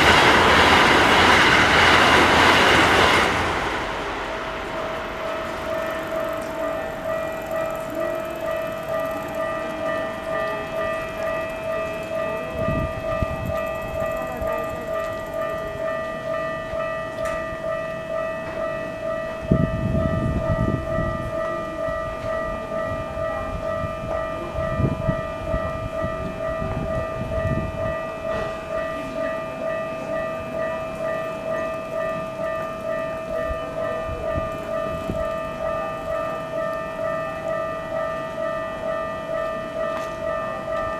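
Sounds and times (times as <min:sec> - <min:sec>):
level-crossing alarm bell: 0:00.0 - 0:02.4, 0:04.2 - 0:40.9
passing train rumble: 0:00.0 - 0:40.9.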